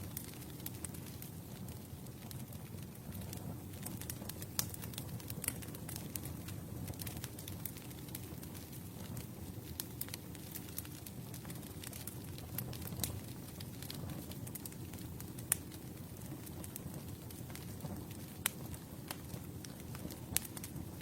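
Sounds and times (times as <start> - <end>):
burning wood crackling and popping: 0.0 - 21.0
campfire flames rumbling: 0.0 - 21.0.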